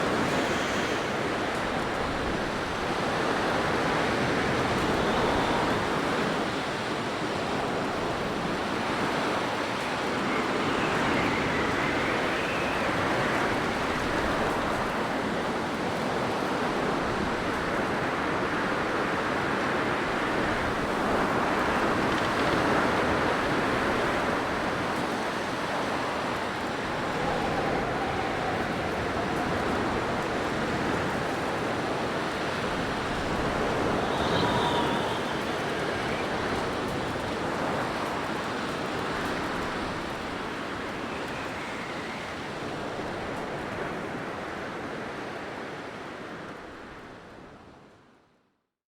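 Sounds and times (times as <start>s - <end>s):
blizzard wind blowing: 0.0s - 47.9s.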